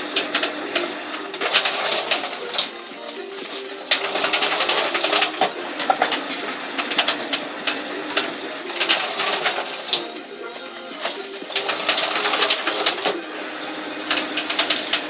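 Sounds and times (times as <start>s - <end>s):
machine motor hum: 0.0s - 15.0s
irregular clicks and rattles: 0.1s - 13.3s, 14.0s - 15.0s.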